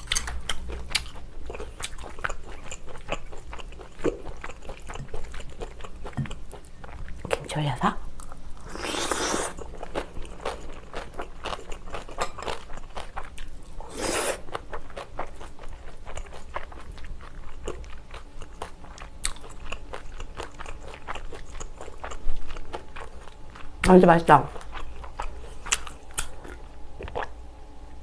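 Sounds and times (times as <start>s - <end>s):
wet chewing with crunches: 0.0s - 7.4s, 8.2s - 27.4s.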